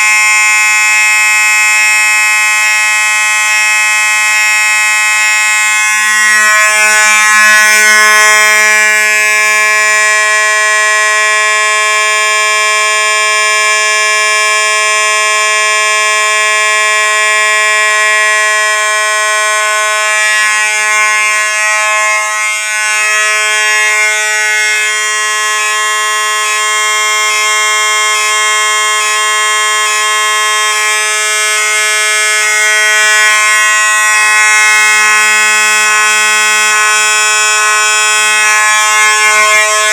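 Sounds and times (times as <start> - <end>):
fire alarm horn buzzing: 0.0 - 39.9.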